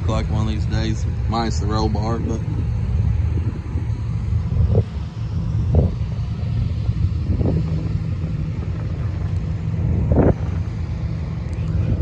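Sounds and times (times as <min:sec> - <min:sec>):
engine running with low rumble: 0:00.0 - 0:12.0.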